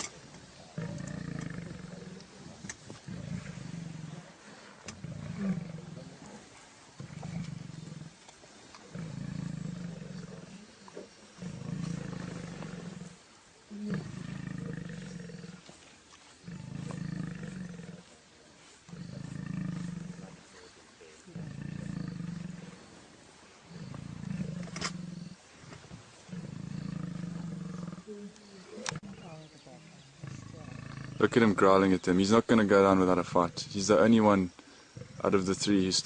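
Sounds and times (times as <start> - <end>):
lions growling: 0.0 - 15.8, 16.4 - 32.1, 33.0 - 36.0.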